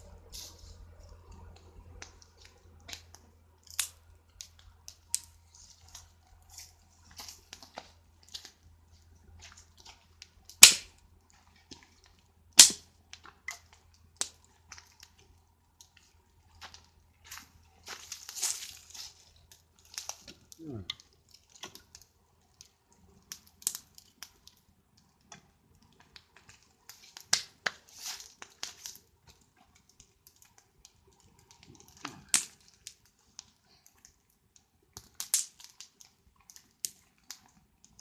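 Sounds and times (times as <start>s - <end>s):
wood fire crackling: 0.0s - 38.0s
loud cracks from fire: 1.4s - 38.0s.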